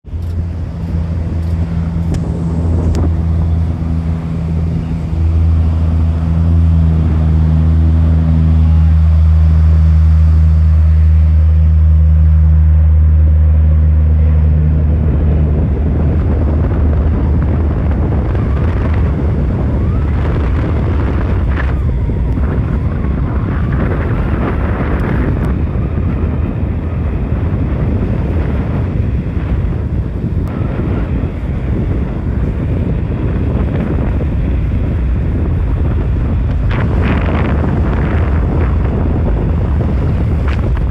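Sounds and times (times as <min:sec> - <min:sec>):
aircraft propellers droning: 0:00.0 - 0:40.9
wind buffeting microphone: 0:00.0 - 0:40.9
wind rushing: 0:00.0 - 0:40.9
surf: 0:00.1 - 0:40.9.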